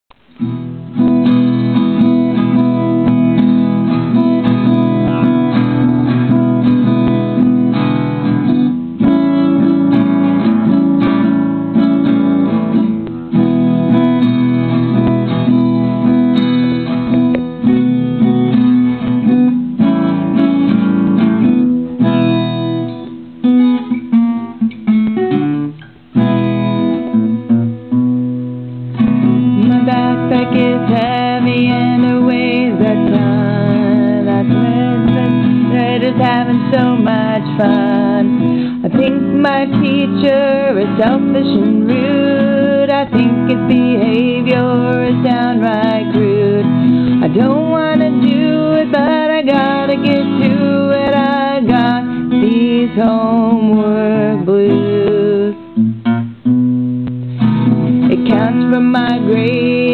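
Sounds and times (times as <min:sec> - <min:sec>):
acoustic guitar strumming blues: 0:00.1 - 0:59.9.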